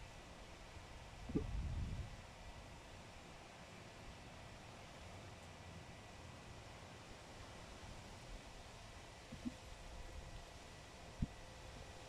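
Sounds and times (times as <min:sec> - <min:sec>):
faint rain: 0:02.1 - 0:12.0.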